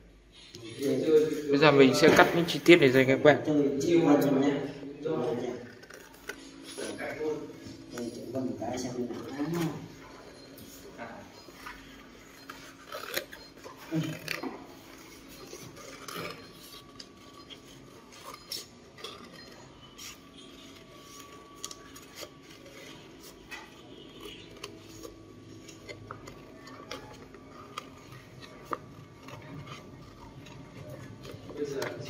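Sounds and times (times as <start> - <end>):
scissors cutting paper: 5.2 - 10.6, 11.4 - 32.0.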